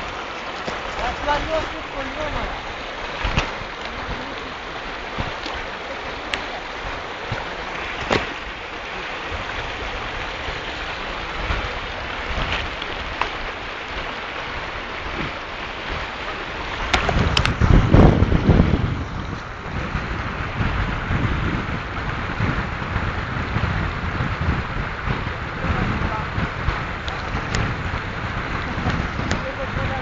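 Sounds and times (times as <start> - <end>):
low rumble on microphone: 0.0 - 30.0
river flowing over stones: 0.0 - 30.0.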